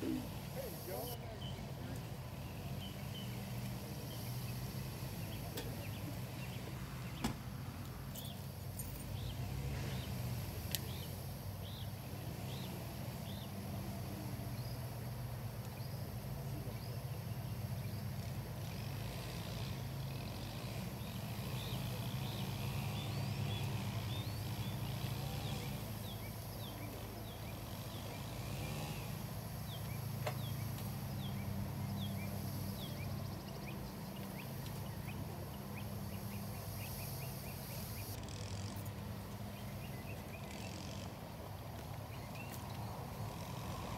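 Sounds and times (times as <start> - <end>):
small birds chirping: 0.0 - 7.5, 8.1 - 43.9.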